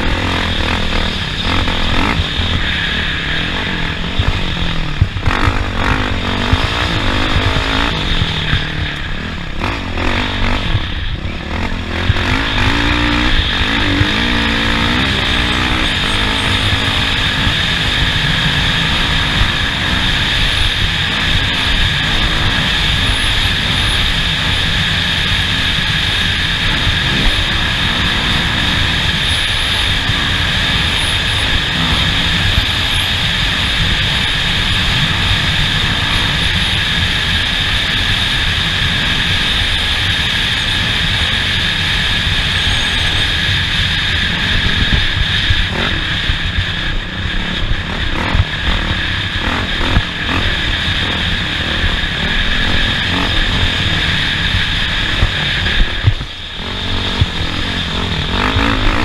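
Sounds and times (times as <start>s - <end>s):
off-road vehicle engine droning: 0.0s - 59.0s.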